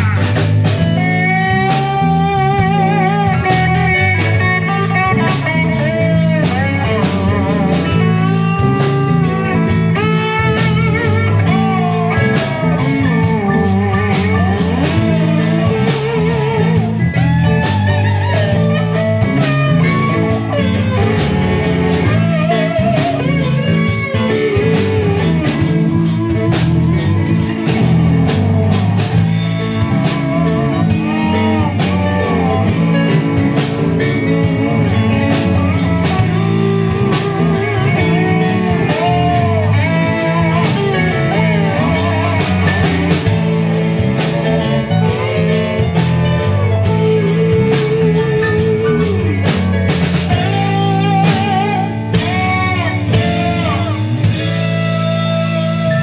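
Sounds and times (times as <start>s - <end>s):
drum kit beat: 0.0s - 56.0s
electric bass: 0.0s - 56.0s
electric guitar lead: 0.0s - 56.0s.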